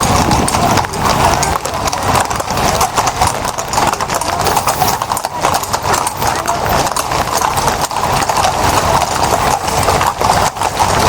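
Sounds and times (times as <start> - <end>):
horse hooves on stone: 0.0 - 11.0.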